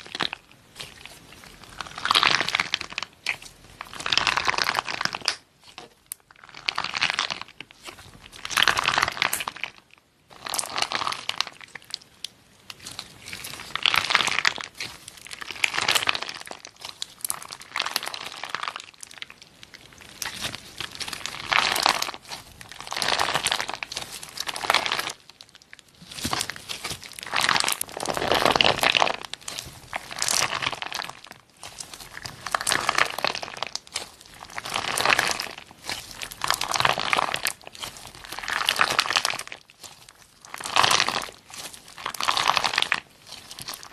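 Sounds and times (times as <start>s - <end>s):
slime crackling when squeezed: 0.0s - 43.9s.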